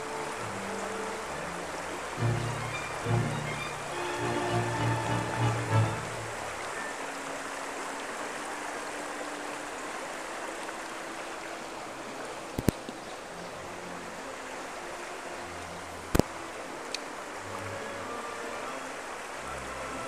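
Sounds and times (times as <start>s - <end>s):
stream rippling over stones: 0.0s - 20.0s.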